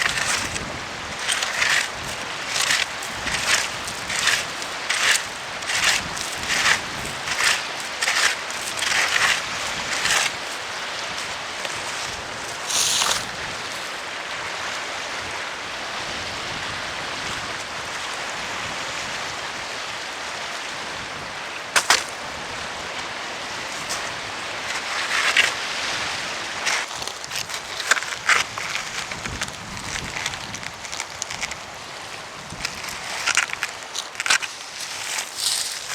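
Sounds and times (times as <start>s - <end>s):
wind: 0.0s - 35.9s.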